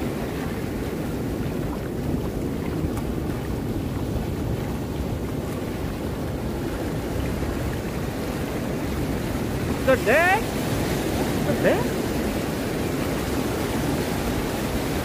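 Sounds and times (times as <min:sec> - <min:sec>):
small surf waves breaking: 0:00.0 - 0:15.0
wind noise on microphone: 0:00.0 - 0:15.0.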